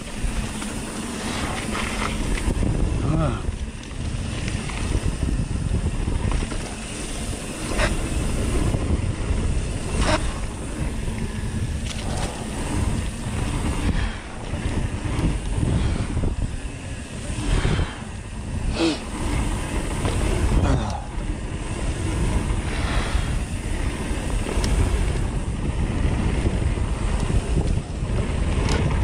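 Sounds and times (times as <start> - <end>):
bike rattling clacks: 0.0 - 29.0
bike tyres on dirt trail: 0.0 - 29.0
wind buffeting microphone: 0.0 - 29.0.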